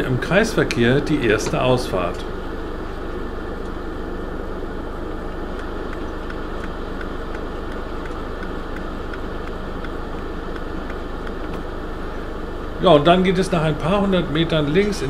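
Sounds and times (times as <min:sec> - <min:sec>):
road noise rush: 0:00.0 - 0:14.9
vehicle engine hum: 0:00.0 - 0:15.0.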